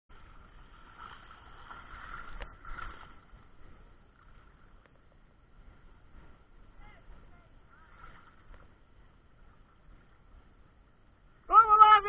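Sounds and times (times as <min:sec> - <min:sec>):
stream water splashing: 0:00.1 - 0:12.0.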